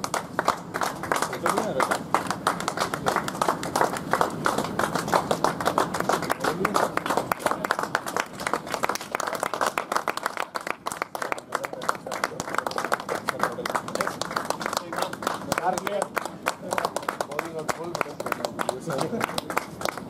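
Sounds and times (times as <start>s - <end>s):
people clapping: 0.0s - 20.0s.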